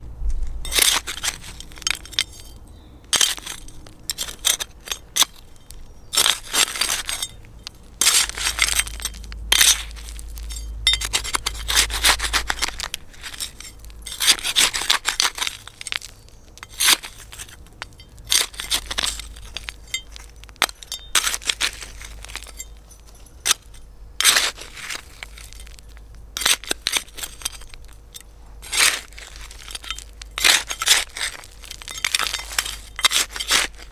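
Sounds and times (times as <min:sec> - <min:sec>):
trowel scraping and crunching soil: 0:00.6 - 0:33.9.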